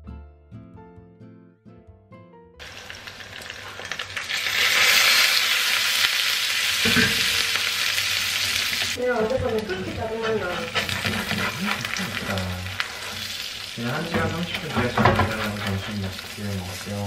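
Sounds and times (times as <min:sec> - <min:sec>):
meat frying loudly in a pan: 0:02.6 - 0:17.0.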